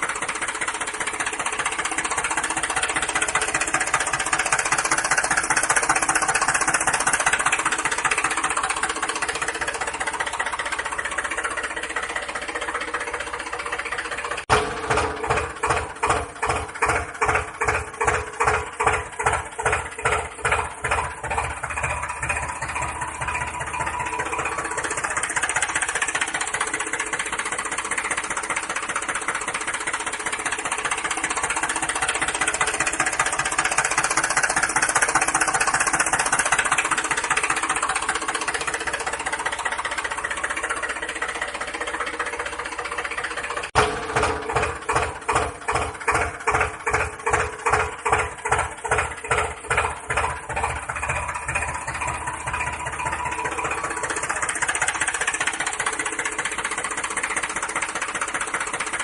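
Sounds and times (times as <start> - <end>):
engine chugging: 0.0 - 59.0.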